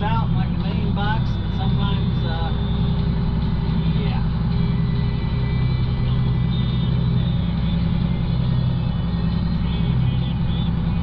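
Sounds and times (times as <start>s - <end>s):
vehicle engine running steadily: 0.0s - 11.0s.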